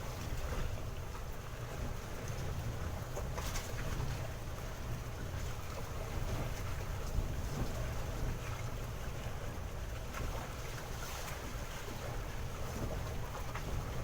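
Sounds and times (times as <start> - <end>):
water washing around boat: 0.0 - 14.0.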